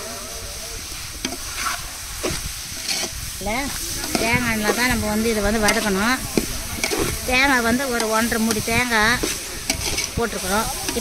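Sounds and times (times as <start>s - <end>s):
food sizzling: 0.0s - 11.0s
ladle scraping a pot: 0.8s - 11.0s.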